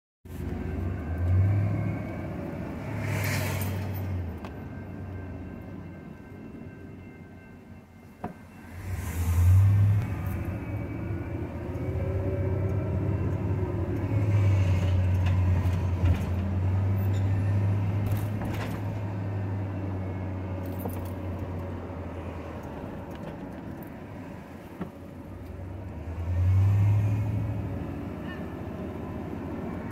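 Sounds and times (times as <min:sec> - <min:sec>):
vehicle engine hum: 0:00.3 - 0:05.3, 0:08.2 - 0:29.9.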